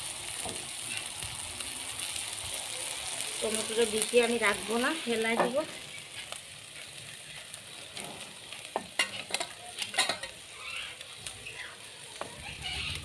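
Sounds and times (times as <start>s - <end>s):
spices sizzling in a pan: 0.0s - 13.0s.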